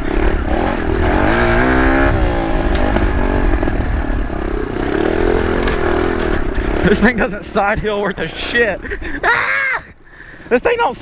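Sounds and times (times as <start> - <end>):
dirt bike engine revving: 0.0 - 8.9.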